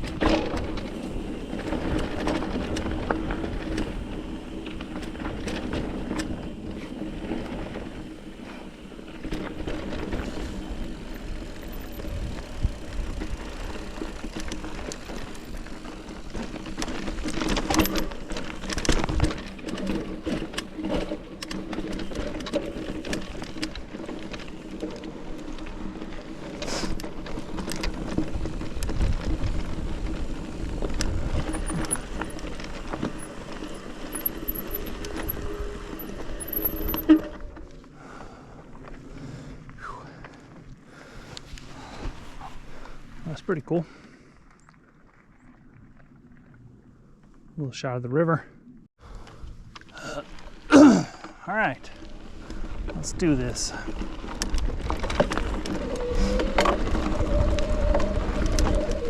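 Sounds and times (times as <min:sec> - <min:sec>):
bike rattling: 0:00.0 - 0:47.5, 0:49.0 - 0:59.0
bike tyres on rocky trail: 0:00.0 - 0:59.0.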